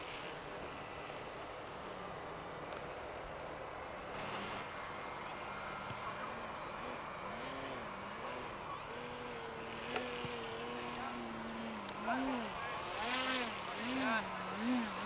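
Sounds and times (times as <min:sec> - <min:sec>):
model plane motor whining: 0:00.0 - 0:15.0
steady background hiss: 0:00.0 - 0:15.0.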